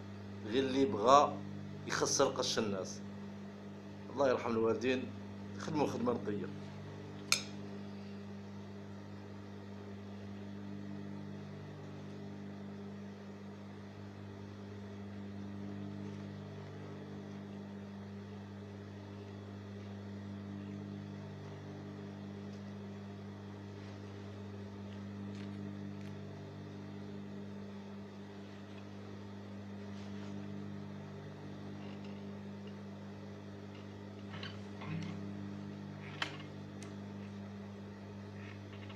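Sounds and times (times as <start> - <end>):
low electric hum: 0.0 - 38.9.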